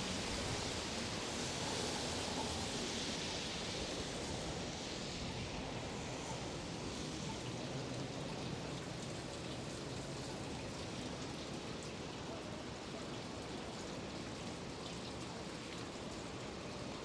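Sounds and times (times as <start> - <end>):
pouring rain: 0.0 - 17.0.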